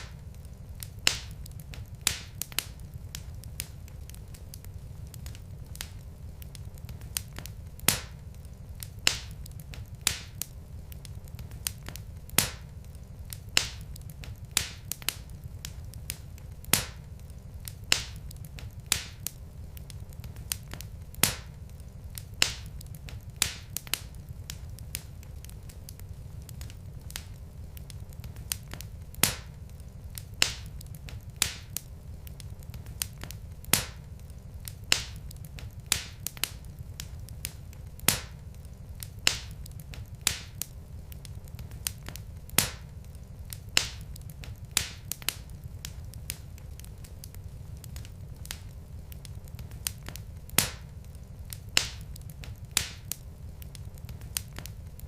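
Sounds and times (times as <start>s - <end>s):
low rumble of burning logs: 0.0s - 55.0s
wood fire crackling and popping: 0.0s - 55.0s.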